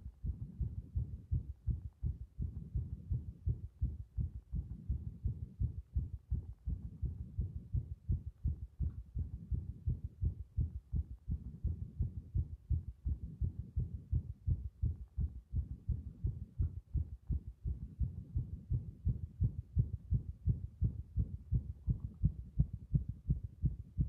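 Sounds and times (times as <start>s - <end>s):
heartbeat thumps: 0.0s - 24.0s.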